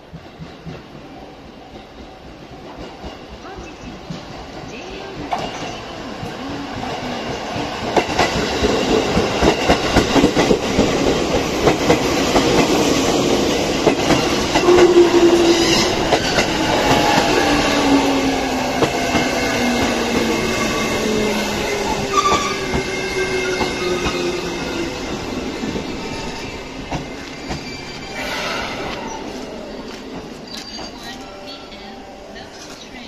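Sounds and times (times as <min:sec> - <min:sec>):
train rolling past: 0:00.0 - 0:33.0.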